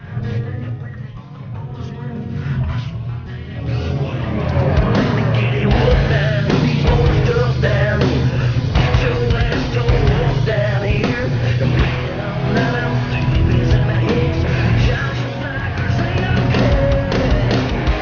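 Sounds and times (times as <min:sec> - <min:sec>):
bass: 0:00.0 - 0:18.0
electric guitar: 0:00.0 - 0:18.0
person singing: 0:00.0 - 0:18.0.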